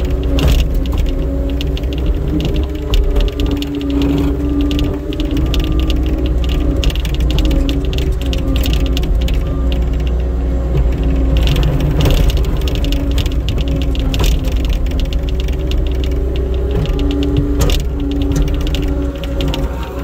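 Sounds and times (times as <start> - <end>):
hydraulic whine: 0.0 - 20.0
skid steer engine running hard: 0.0 - 20.0.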